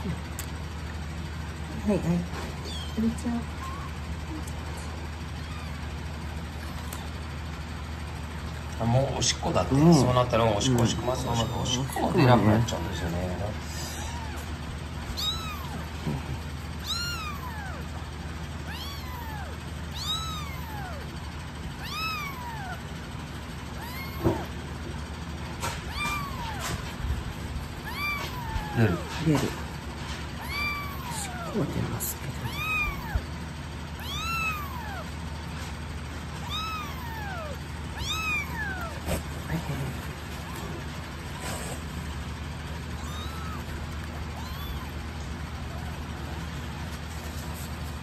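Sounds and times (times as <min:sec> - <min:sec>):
kitten mewing: 0:02.5 - 0:07.3, 0:09.6 - 0:47.8.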